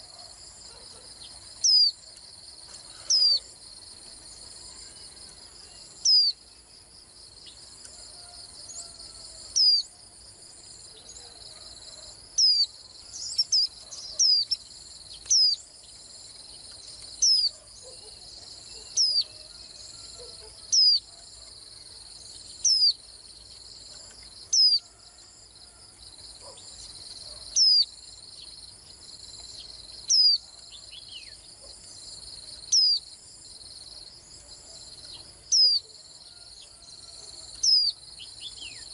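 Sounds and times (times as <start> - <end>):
insect trill: 0.0 - 38.9.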